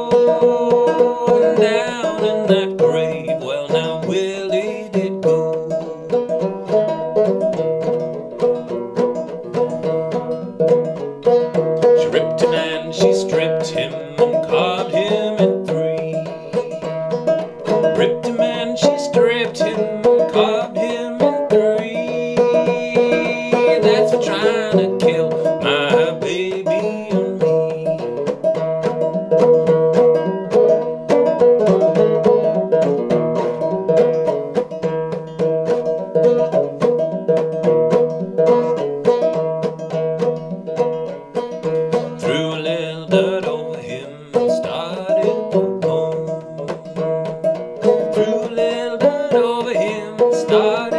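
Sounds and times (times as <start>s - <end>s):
banjo clawhammer playing: 0.0s - 50.9s.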